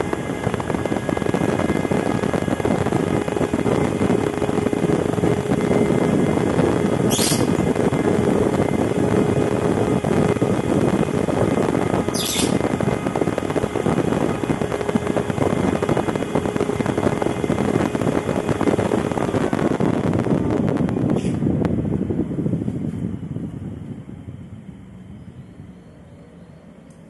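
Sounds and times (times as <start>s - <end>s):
faint steady hum: 0.0s - 27.0s
fan air rushing: 0.0s - 27.0s.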